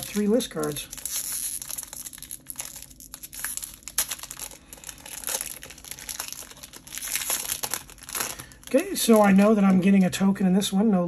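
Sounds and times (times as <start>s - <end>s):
foil wrapper crinkling: 0.0s - 10.1s.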